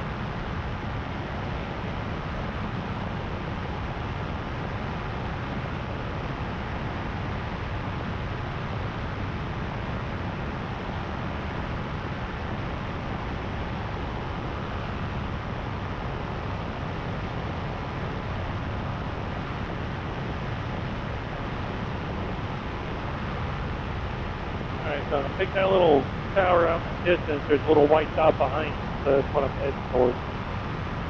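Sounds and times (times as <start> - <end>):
paramotor engine and propeller: 0.0 - 31.0
wind on microphone: 0.0 - 31.0.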